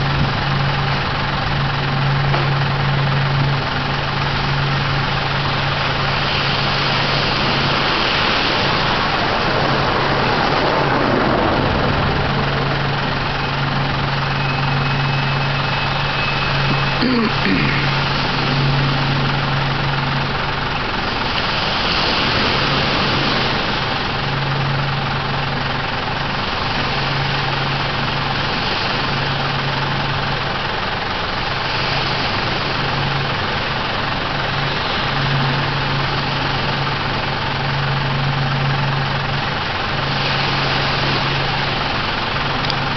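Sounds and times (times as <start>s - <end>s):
engine idling: 0.0s - 42.9s
waves washing up beach: 0.0s - 42.9s.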